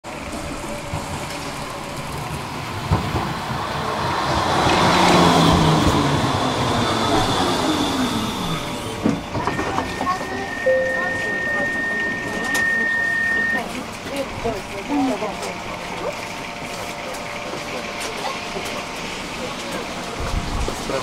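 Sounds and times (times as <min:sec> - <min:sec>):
tram rolling on rails: 0:00.0 - 0:21.0
tram clunk: 0:00.1 - 0:21.0.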